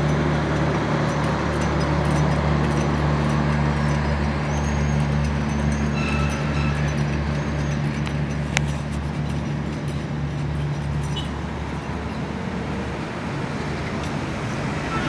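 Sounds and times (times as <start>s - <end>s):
low train engine drone: 0.0s - 15.0s
rushing rail noise: 0.0s - 15.0s.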